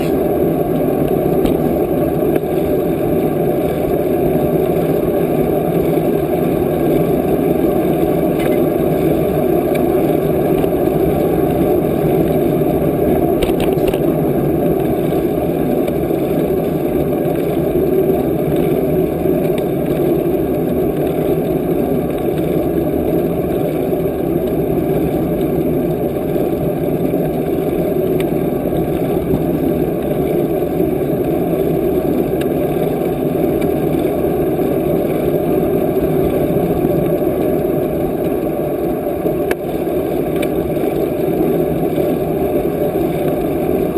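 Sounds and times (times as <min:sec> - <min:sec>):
bicycle road noise: 0:00.0 - 0:43.9.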